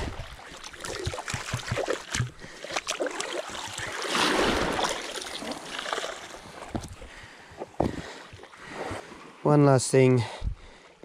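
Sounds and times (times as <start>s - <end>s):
water sloshing and splashing: 0.0s - 9.4s.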